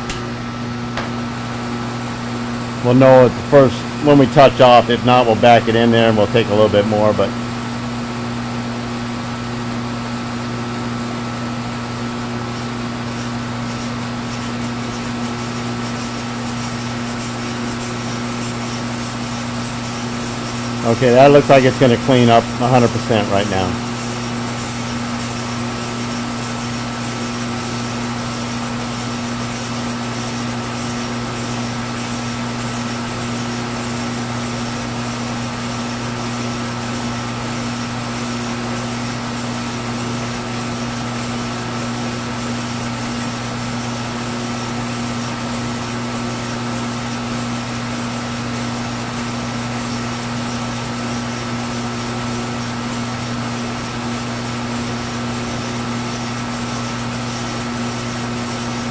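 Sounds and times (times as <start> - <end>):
milling machine motor hum: 0.0 - 58.9.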